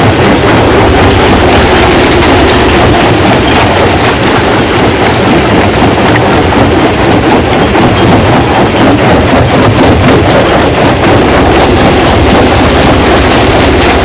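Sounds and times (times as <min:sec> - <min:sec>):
stone crushing machine running: 0:00.0 - 0:14.0.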